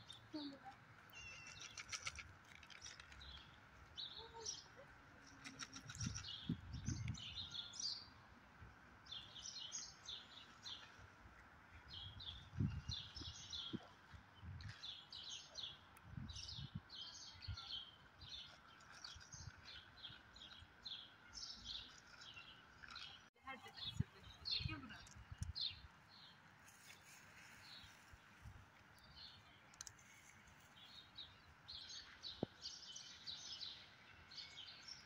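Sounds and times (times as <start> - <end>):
small birds chirping: 0.0 - 8.2, 9.0 - 35.0.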